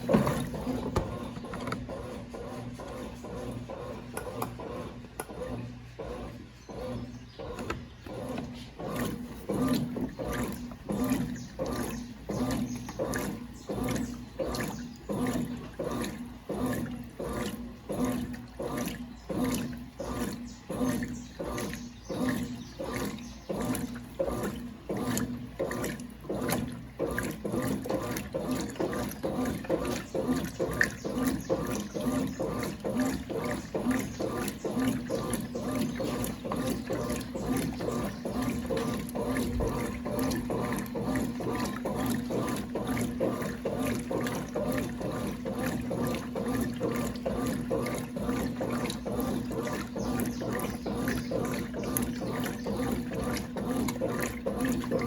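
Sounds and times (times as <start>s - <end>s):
motor hum: 0.0s - 55.0s
washing machine water sloshing: 0.0s - 55.0s.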